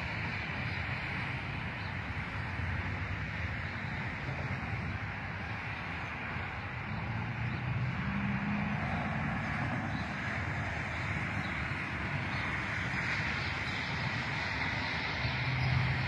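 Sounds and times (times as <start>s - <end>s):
cars passing on a highway: 0.0s - 16.0s
low engine hum: 0.0s - 16.0s.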